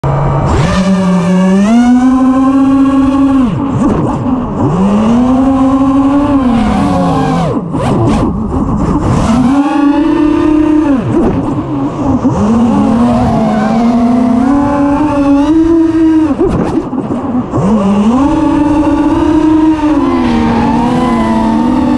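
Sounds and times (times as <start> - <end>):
drone motors whining: 0.1 - 21.9.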